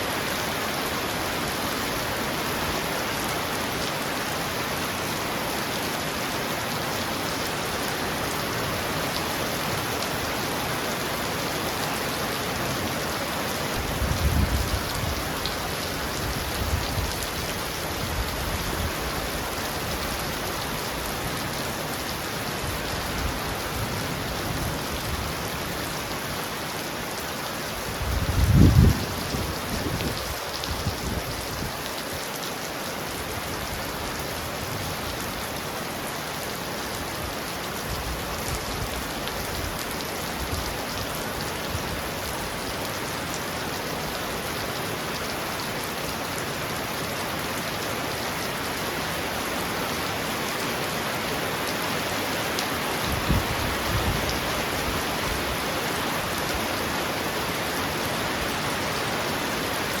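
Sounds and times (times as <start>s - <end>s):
heavy rain on a roof: 0.0s - 60.0s.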